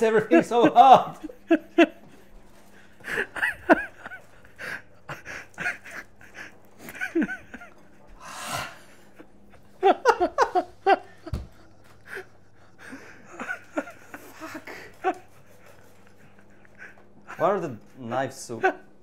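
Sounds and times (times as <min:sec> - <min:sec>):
stifled wheezing laughter: 0:01.1 - 0:17.5.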